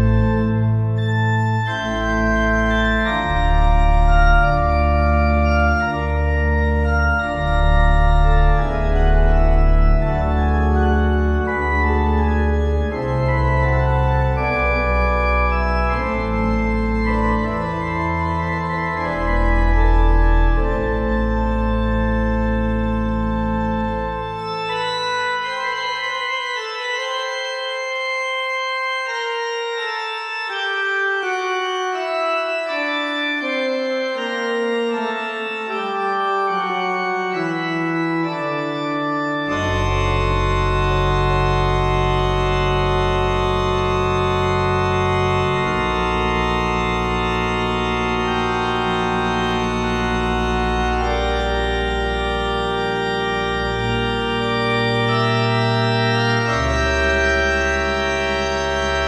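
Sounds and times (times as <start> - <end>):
church organ chords: 0.0 - 59.0
deep organ pedal notes: 0.0 - 59.0.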